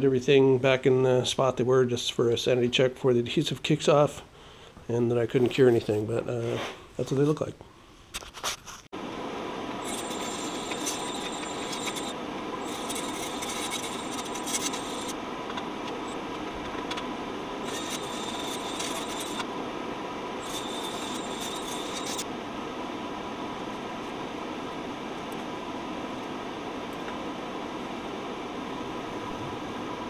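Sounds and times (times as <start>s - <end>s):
background hum: 0.0s - 30.0s.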